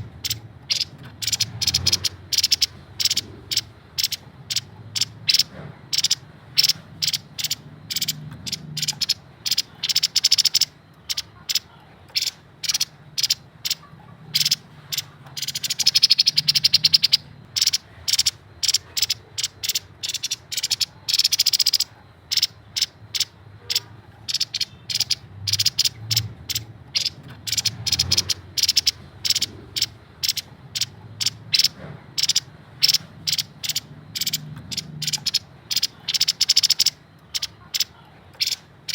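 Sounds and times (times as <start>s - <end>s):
bird chattering song: 0.0s - 38.9s
faint low hum: 0.0s - 38.9s.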